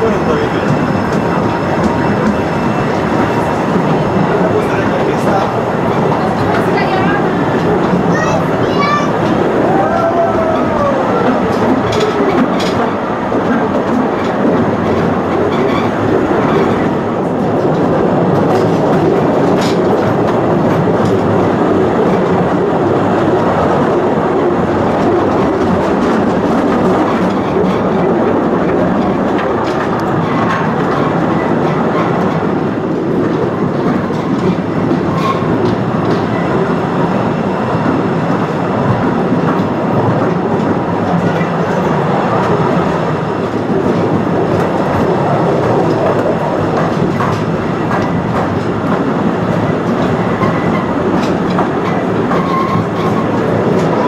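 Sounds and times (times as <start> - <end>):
train rumbling and rattling: 0.0 - 54.0.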